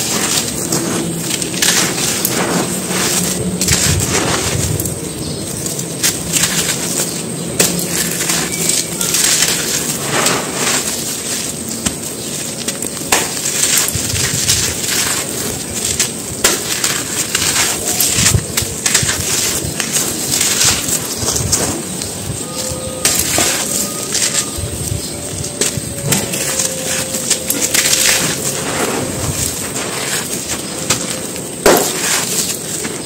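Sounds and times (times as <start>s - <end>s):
crumbs falling onto dirt: 0.0s - 33.0s
dry dirt crunching in hands: 0.0s - 33.0s.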